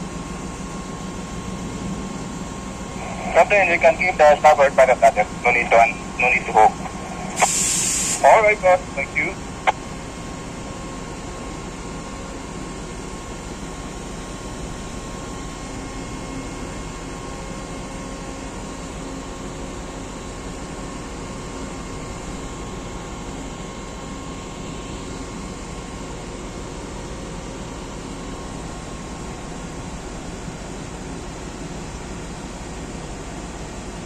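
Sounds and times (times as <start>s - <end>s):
machinery hum with high whine: 0.0s - 34.0s.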